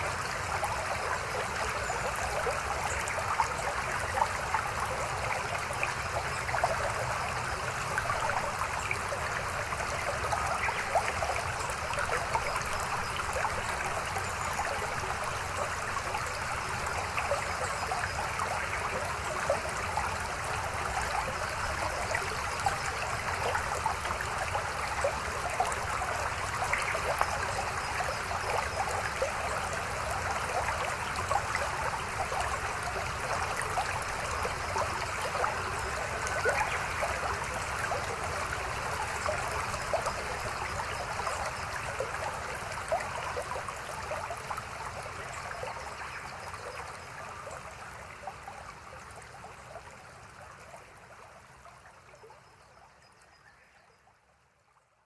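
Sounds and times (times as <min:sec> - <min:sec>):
stream babbling over rocks: 0:00.0 - 0:50.4.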